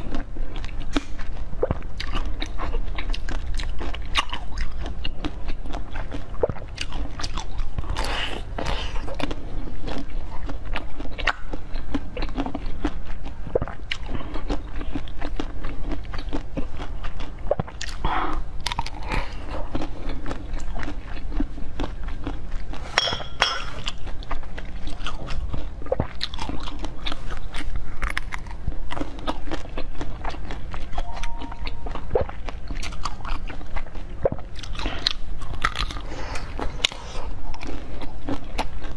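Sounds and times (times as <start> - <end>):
crunchy chewing: 0.0 - 23.0, 23.6 - 38.9
steady low hum: 0.0 - 38.9.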